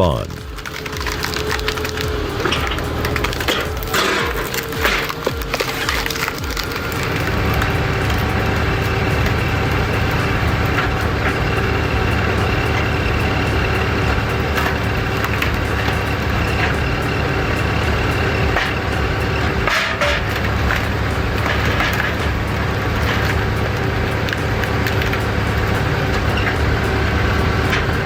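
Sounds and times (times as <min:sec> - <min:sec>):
irregular clatter: 0:00.0 - 0:28.0
wood cracking and splintering: 0:00.0 - 0:28.0
wood-processing machine humming: 0:00.0 - 0:28.0.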